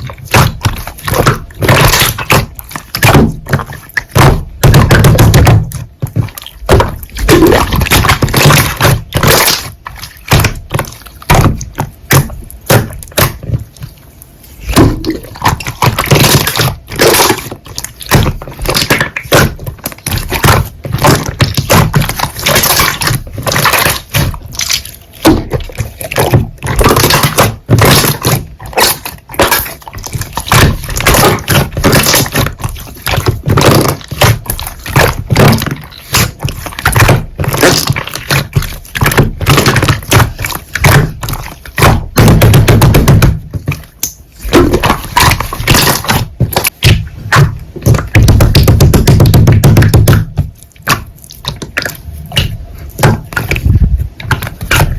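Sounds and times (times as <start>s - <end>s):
low squelching of slime: 0.0s - 54.9s.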